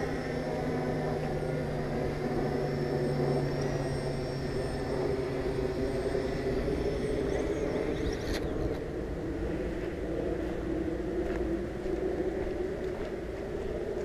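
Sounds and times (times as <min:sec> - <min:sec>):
high motor whine: 0:00.0 - 0:14.0
quadcopter propellers humming: 0:00.0 - 0:14.0.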